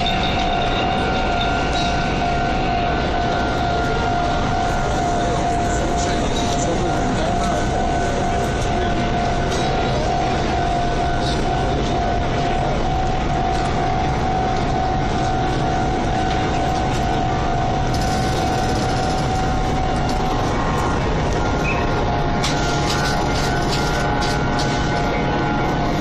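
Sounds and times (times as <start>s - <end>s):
steady train whine: 0.0s - 26.0s.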